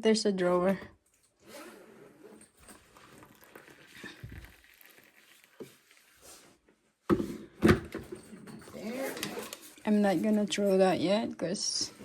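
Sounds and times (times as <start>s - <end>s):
faint rustling and handling: 1.0s - 12.0s.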